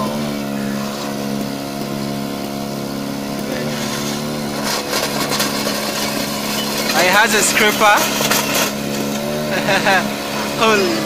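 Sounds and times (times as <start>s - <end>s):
small engine running: 0.0s - 11.0s
tracks rattling: 0.0s - 11.0s.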